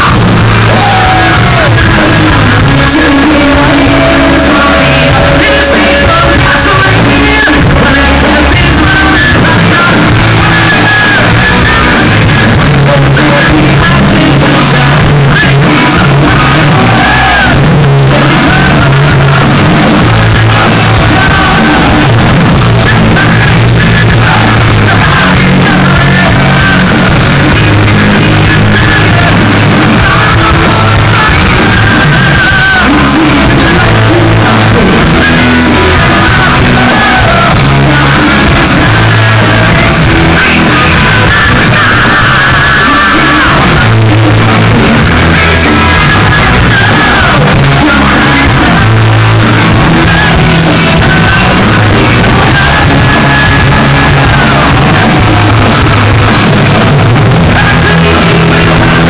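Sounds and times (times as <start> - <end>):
live hard rock band: 0.0 - 59.0
person shouting singing: 0.0 - 59.0.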